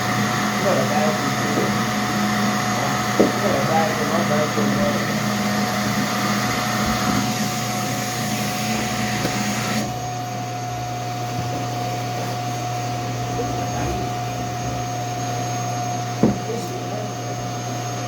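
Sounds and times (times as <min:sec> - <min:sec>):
electric motor humming: 0:00.0 - 0:18.0.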